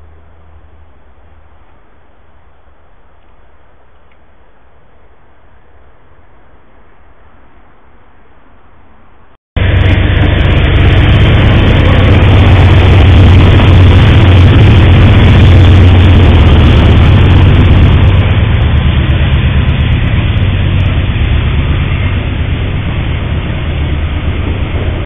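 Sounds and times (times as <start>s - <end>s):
diesel locomotive engine hum: 0.0s - 25.0s
freight cars rolling past: 0.0s - 25.0s.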